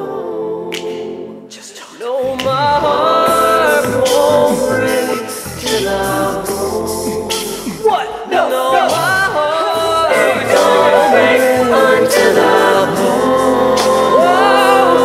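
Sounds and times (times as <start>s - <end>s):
song with vocal harmonies: 0.0s - 15.0s.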